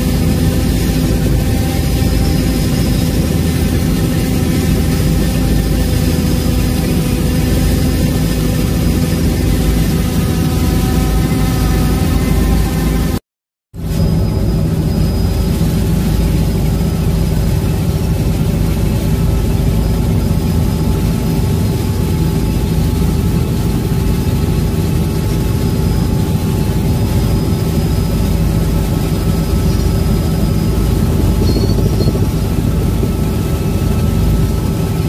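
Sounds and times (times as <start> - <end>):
helicopter rotors and turbine drone: 0.0 - 13.2, 13.8 - 35.0.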